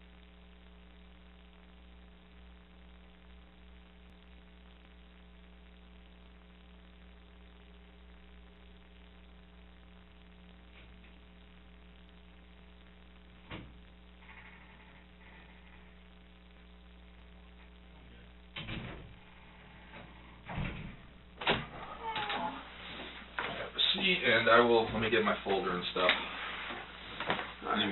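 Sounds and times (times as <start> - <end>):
low hiss: 0.0 - 27.9
steady electrical hum: 0.0 - 27.9.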